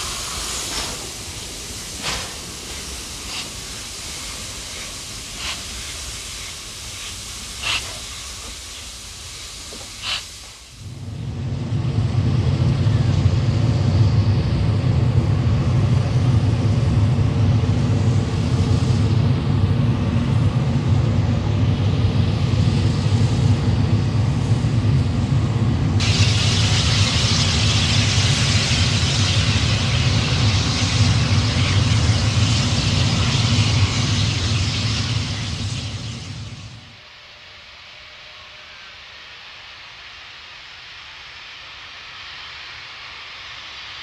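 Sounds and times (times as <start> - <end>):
steam locomotive venting steam: 0.0 - 44.0.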